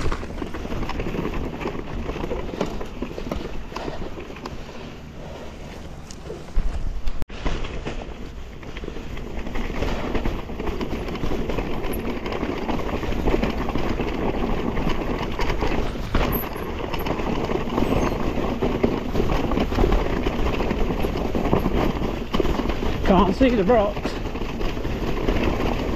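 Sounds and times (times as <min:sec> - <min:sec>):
bike rattling and clattering: 0:00.0 - 0:25.9
bike tyres rumbling on rocks: 0:00.0 - 0:25.9.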